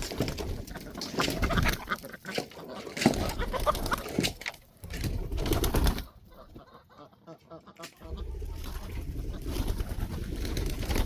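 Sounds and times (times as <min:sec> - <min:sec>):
chickens cooing and clucking: 0:00.0 - 0:11.0.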